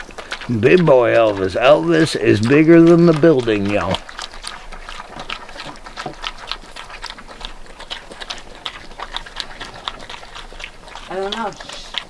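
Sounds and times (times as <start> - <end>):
pigs chomping food: 0.0 - 12.0.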